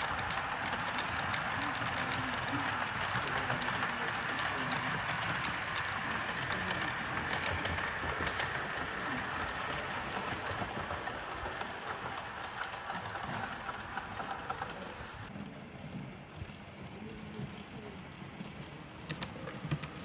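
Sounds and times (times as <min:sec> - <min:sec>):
model train whirring and clicking: 0:00.0 - 0:20.0.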